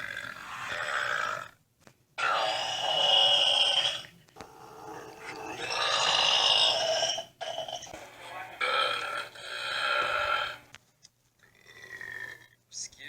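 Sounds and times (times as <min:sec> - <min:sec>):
man belching: 0:00.0 - 0:01.6, 0:02.2 - 0:10.7, 0:11.4 - 0:12.6.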